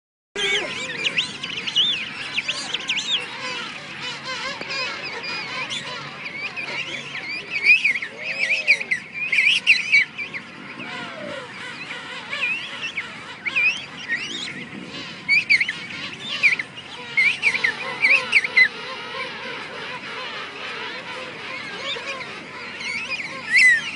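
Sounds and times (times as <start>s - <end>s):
penguins calling: 0.4s - 23.9s.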